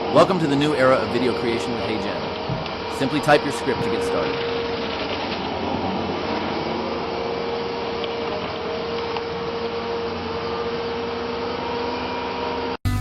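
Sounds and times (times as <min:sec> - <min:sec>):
louder machine sound: 0:00.0 - 0:13.0
machine humming with whine: 0:00.0 - 0:13.0.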